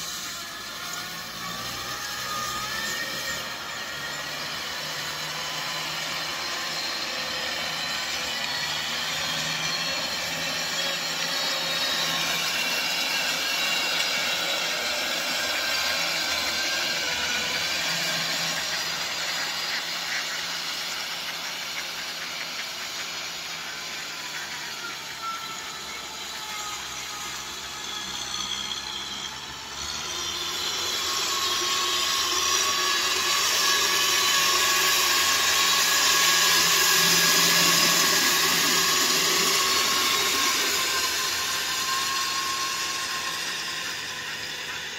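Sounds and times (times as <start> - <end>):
rotary tiller churning mud: 0.0 - 25.4, 29.4 - 44.9.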